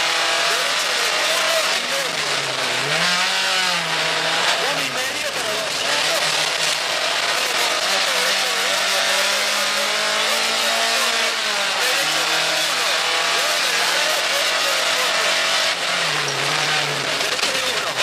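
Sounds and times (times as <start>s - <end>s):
gravel and road noise: 0.0s - 18.0s
rally car engine running hard: 0.0s - 18.0s.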